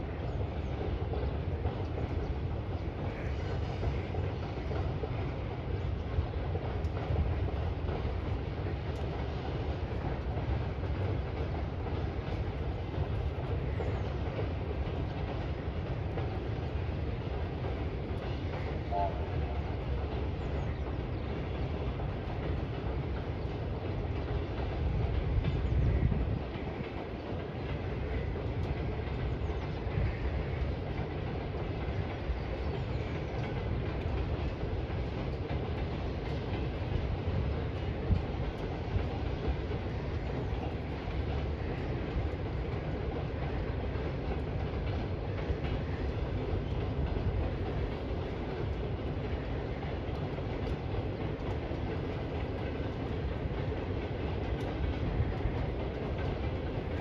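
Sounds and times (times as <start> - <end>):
distant freight train rumbling: 0.0 - 57.0.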